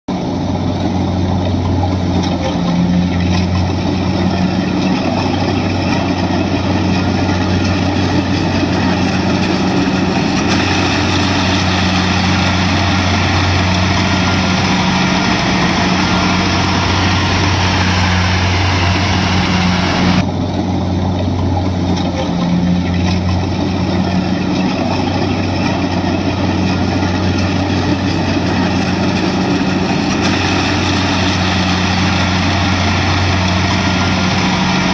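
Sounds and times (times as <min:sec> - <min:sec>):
combine harvester diesel engine: 0:00.0 - 0:34.9.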